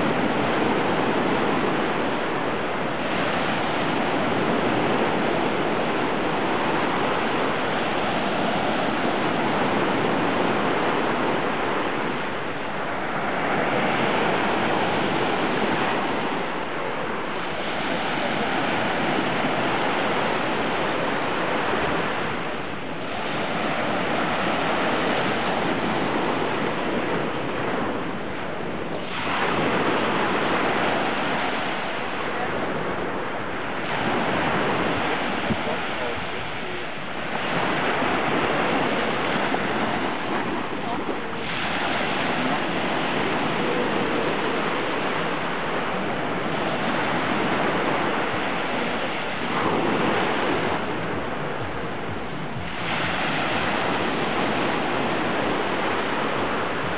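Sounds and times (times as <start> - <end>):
waves breaking on a beach: 0.0 - 56.9.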